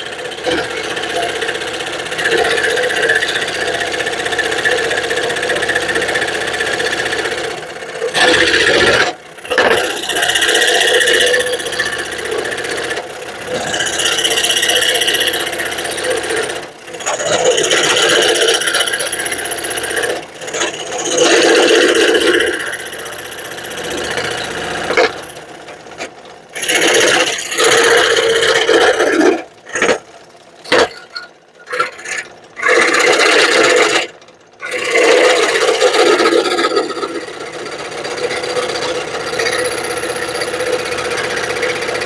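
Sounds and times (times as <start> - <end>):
scroll saw cutting wood: 0.0 - 25.5, 26.5 - 30.0, 31.7 - 42.0.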